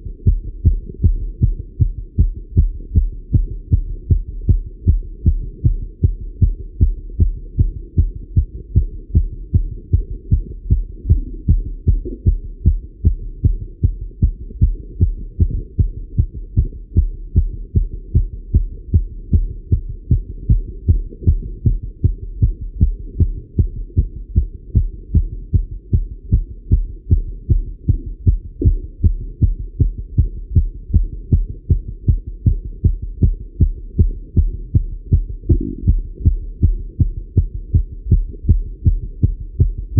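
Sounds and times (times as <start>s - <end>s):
fast heartbeat through stethoscope: 0.0s - 39.9s.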